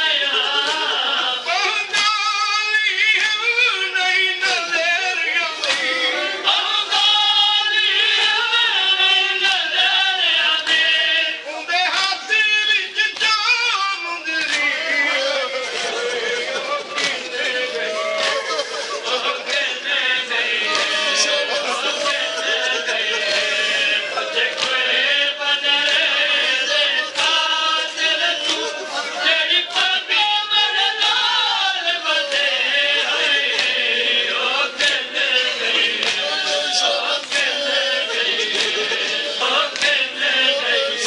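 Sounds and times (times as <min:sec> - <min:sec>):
men chanting in chorus: 0:00.0 - 0:41.0.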